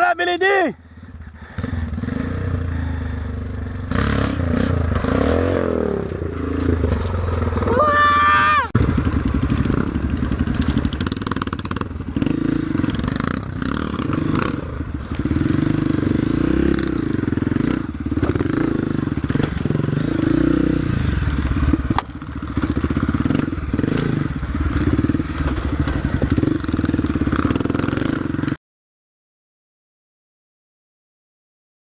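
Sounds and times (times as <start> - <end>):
motorcycle engine revving: 0.8 - 28.6.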